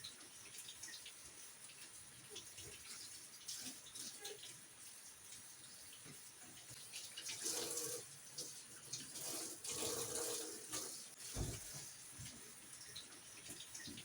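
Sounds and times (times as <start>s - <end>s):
water splashing in a sink: 0.0s - 14.0s.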